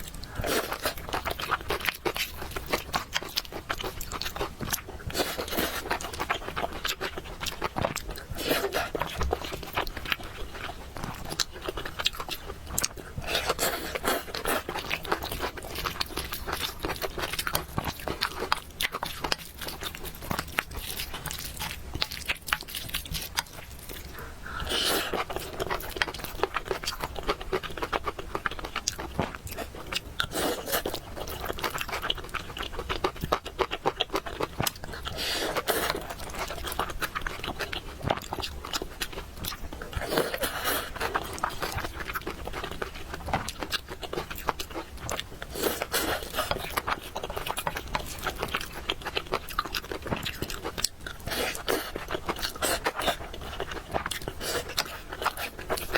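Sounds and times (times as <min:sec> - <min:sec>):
close-miked chewing and biting: 0:00.0 - 0:55.9.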